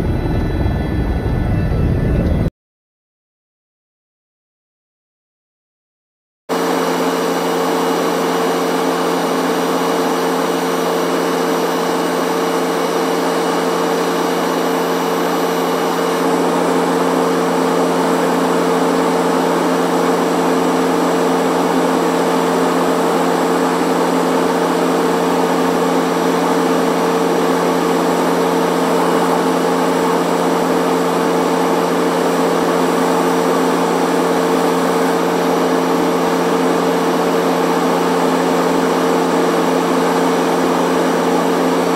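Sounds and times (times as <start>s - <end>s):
helicopter engine and rotor drone: 0.0s - 2.5s, 6.5s - 41.9s.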